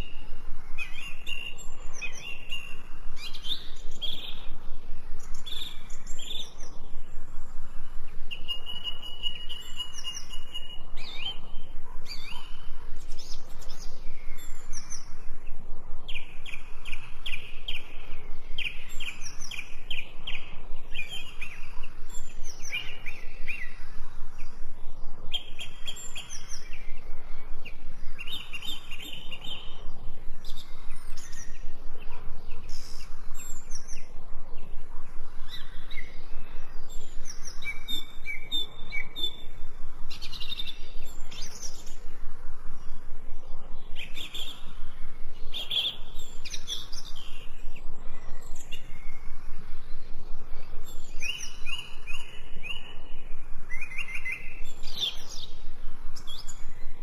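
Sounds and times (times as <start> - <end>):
wild birds chirping and singing: 0.0 - 57.0.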